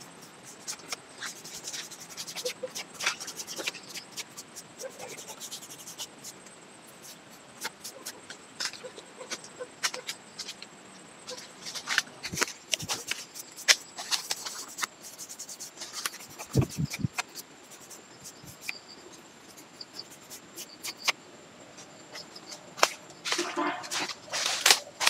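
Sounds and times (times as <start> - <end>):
tool clicking and scratching bark: 0.0 - 10.6, 11.3 - 21.2.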